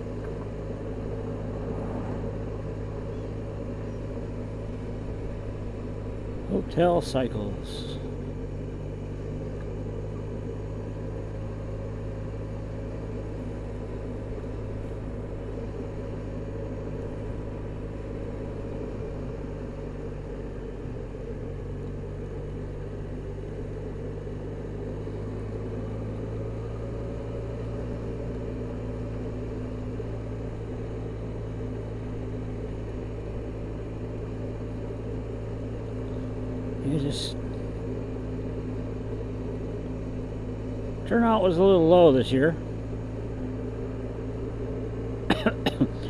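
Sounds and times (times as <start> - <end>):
motor scooter engine running: 0.0 - 46.0
road and wind noise: 0.0 - 46.0.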